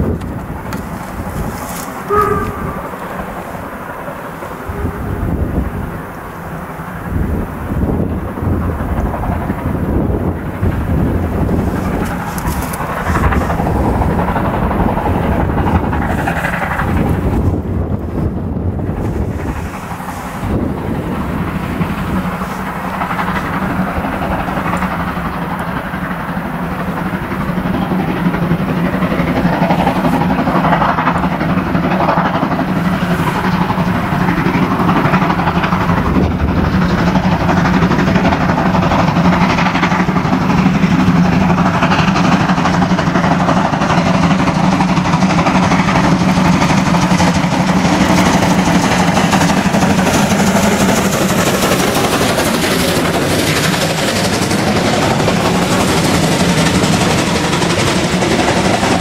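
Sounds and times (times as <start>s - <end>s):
low drone of train: 0.0s - 59.0s
steam locomotive exhaust: 0.0s - 59.0s.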